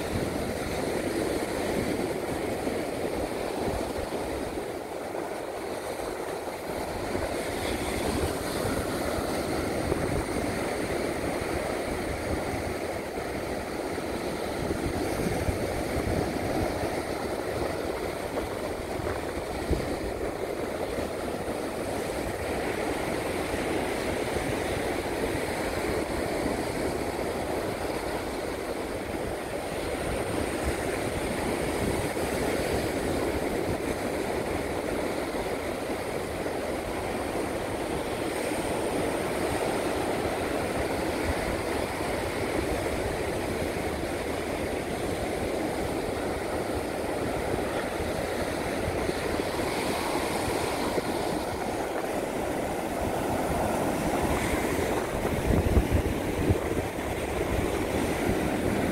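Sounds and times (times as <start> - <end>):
ocean surf breaking: 0.0 - 58.9.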